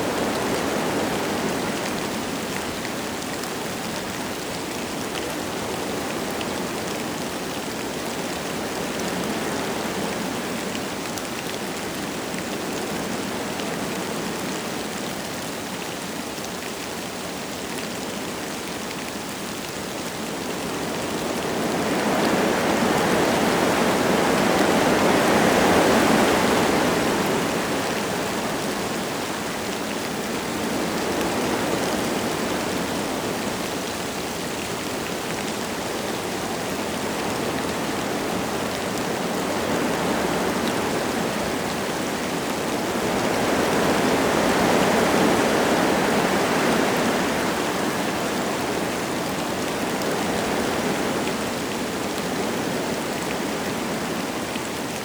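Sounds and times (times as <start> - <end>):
light rain falling: 0.0 - 55.0
wind gusting through trees: 0.0 - 55.0.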